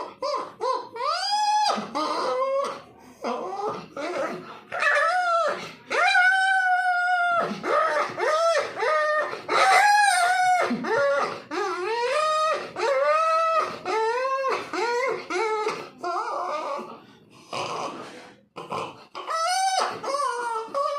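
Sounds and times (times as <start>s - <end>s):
puppy-like whines and howls: 0.0s - 17.0s, 19.2s - 20.9s.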